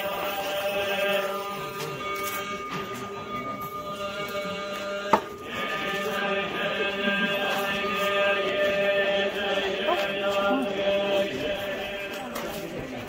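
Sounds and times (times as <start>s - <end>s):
voices chanting: 0.0s - 13.0s.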